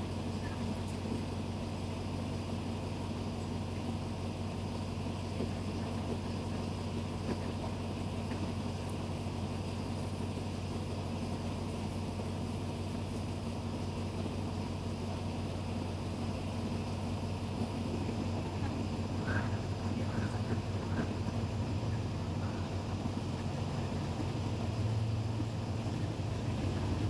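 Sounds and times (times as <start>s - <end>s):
diesel train engine humming: 0.0s - 27.0s.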